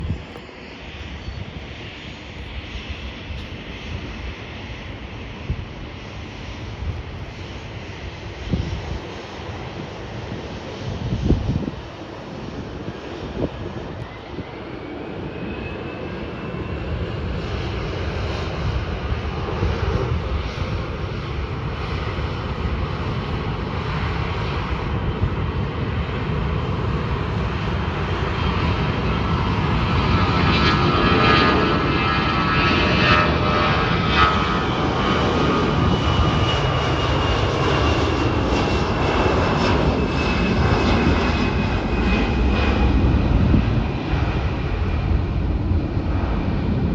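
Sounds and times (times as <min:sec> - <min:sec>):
jet engines at takeoff: 0:00.0 - 0:46.9.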